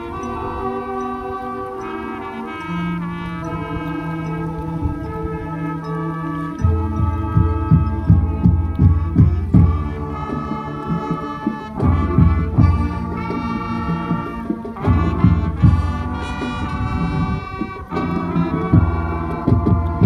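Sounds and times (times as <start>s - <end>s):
brass chords: 0.0s - 20.0s.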